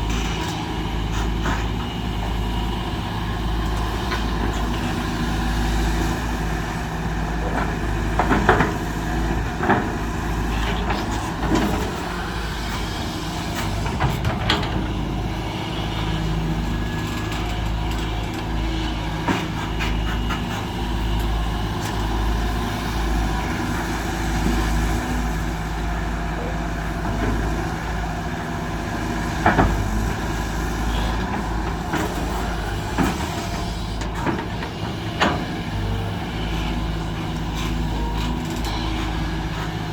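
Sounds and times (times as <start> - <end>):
excavator diesel engines running: 0.0 - 39.9.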